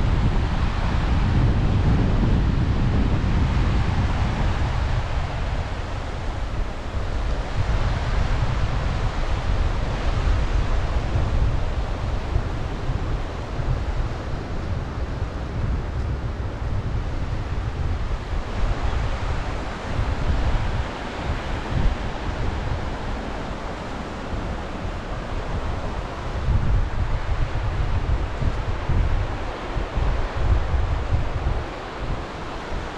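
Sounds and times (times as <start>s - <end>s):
sea surf washing on shore: 0.0s - 32.9s
wind buffeting microphone: 0.0s - 32.9s.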